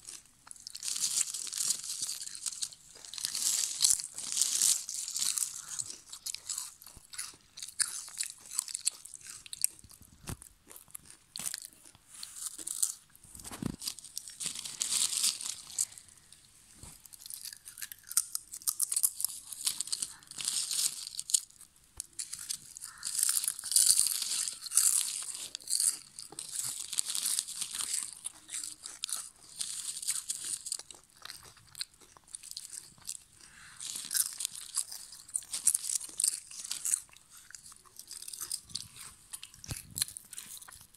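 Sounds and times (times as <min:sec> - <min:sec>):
potato chips crunching: 0:00.0 - 0:40.9.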